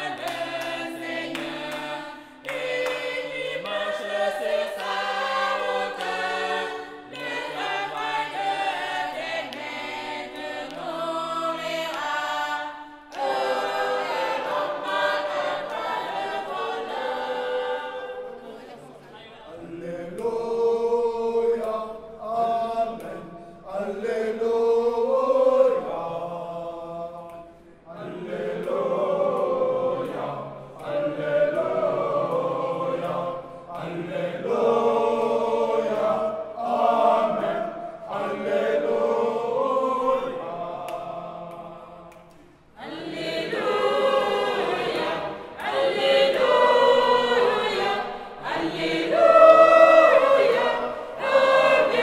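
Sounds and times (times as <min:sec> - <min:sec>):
choir singing: 0:00.0 - 0:52.0.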